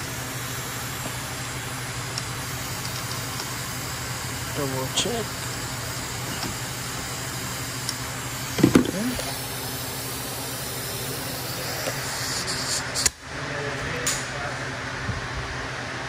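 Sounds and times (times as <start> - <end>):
hiss: 0.0 - 13.2
steady low hum: 0.0 - 16.0.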